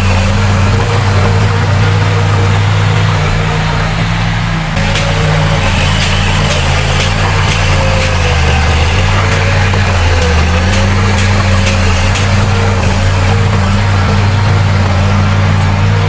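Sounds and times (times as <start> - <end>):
diesel machinery engine drone: 0.0 - 16.0.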